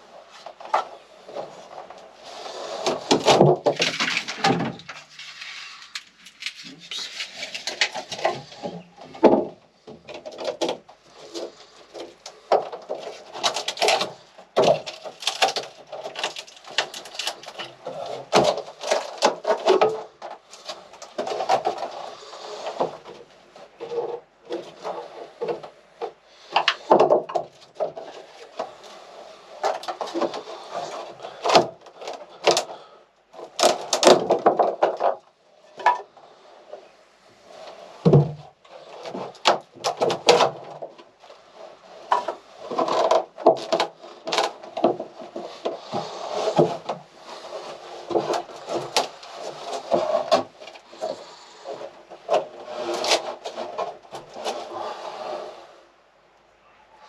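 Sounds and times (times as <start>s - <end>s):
wood knocking scraping and creaking: 0.0s - 56.4s.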